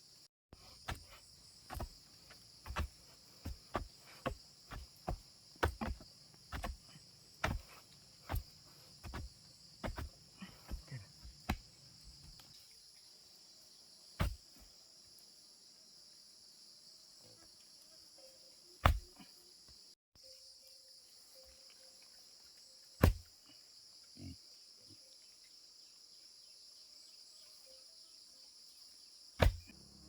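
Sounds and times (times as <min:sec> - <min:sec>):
insect chorus: 0:00.0 - 0:30.0.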